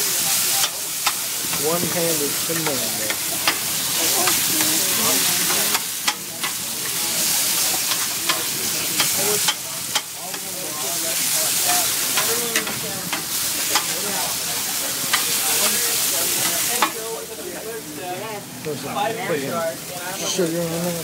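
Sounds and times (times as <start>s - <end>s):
meat sizzling on a griddle: 0.0s - 21.0s.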